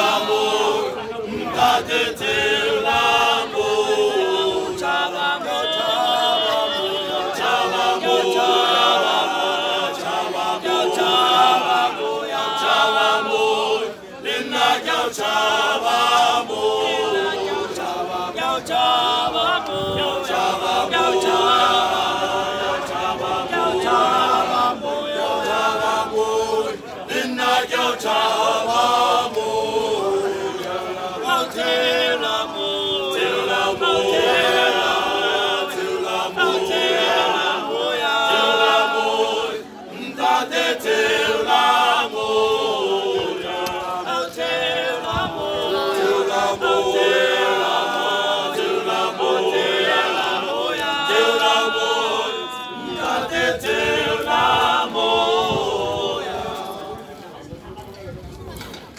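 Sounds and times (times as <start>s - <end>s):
male choir singing unaccompanied: 0.0s - 57.4s.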